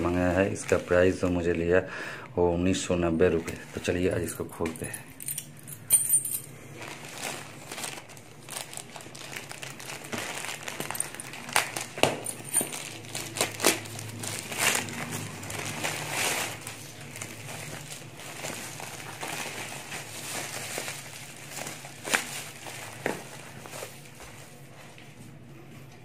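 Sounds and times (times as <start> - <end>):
plastic bag crinkling: 0.0 - 1.8, 2.8 - 5.3, 6.0 - 24.6.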